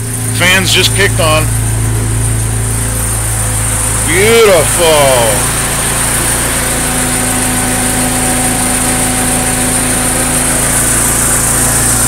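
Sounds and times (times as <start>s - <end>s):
car engine idling: 0.0s - 12.0s
radiator cooling fans running: 0.0s - 12.0s.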